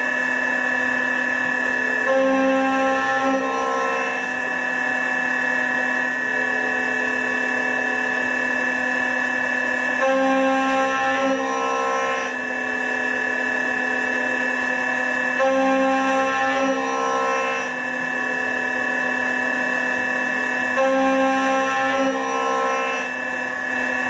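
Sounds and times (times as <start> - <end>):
machine spindle whine: 0.0 - 24.0.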